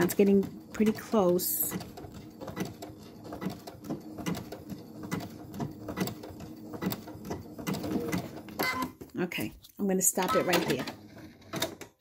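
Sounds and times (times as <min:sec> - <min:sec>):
sewing machine motor hum: 0:00.0 - 0:09.0, 0:10.2 - 0:12.0.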